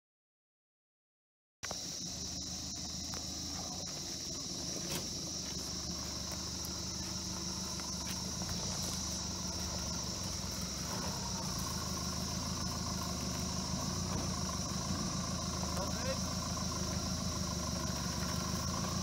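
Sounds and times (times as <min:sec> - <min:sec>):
high insect drone: 0:01.6 - 0:19.0
vehicle engine running low: 0:01.7 - 0:19.0.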